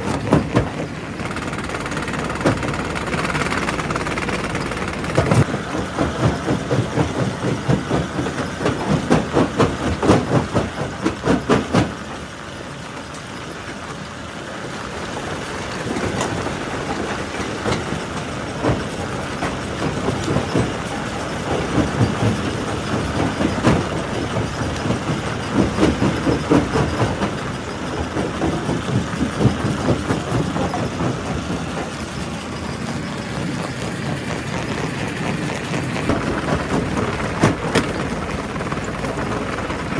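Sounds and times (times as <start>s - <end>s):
rock crusher running: 0.0s - 39.9s.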